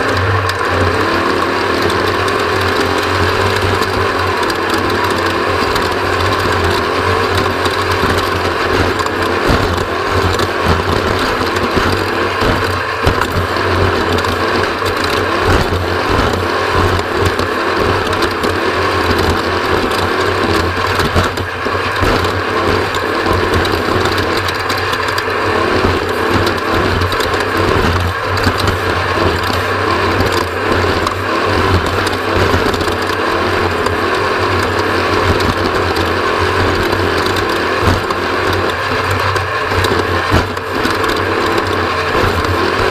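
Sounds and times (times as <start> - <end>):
loud engine drone: 0.0 - 42.9
mechanical rattling and clatter: 0.0 - 42.9.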